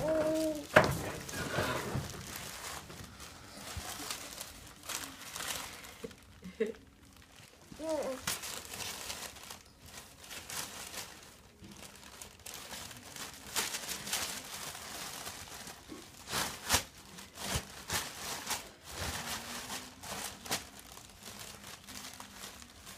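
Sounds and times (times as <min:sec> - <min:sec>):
paper crumpling and tearing: 0:00.0 - 0:22.9.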